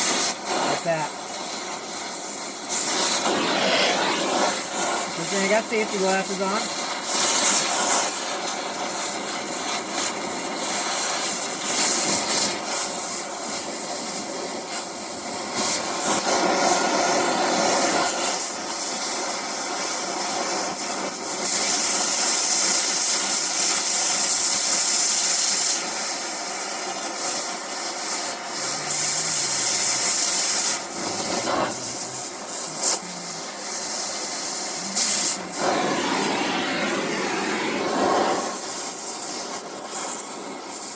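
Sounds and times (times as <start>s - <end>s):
cutting torch hissing: 0.0s - 40.9s.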